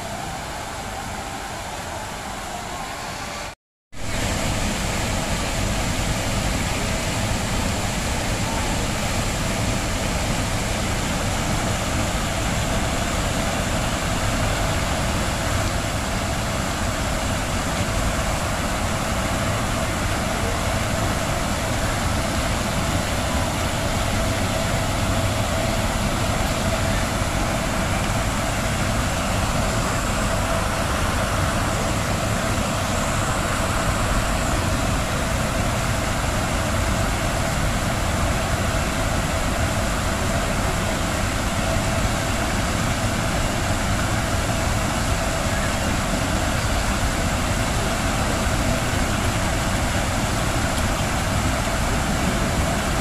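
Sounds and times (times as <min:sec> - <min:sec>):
fountain water rushing: 0:00.0 - 0:53.0.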